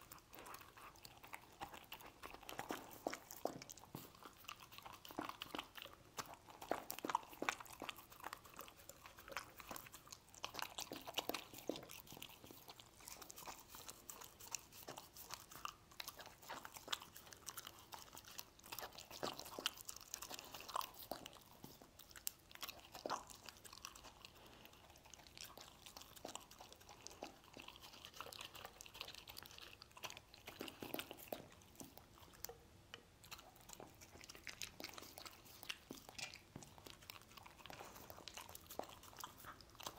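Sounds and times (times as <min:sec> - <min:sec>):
dog chewing and crunching: 0:00.0 - 0:39.9.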